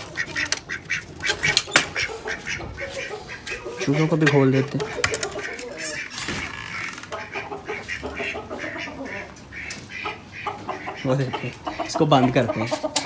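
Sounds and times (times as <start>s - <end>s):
chickens clucking and squawking: 0.0s - 13.0s.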